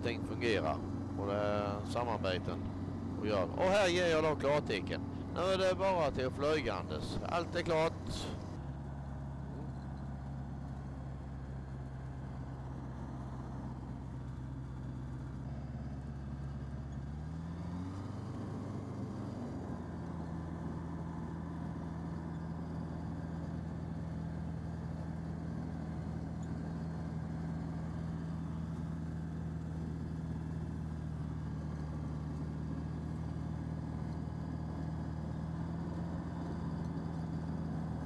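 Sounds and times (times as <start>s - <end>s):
light aircraft engine and propeller: 0.0s - 38.0s.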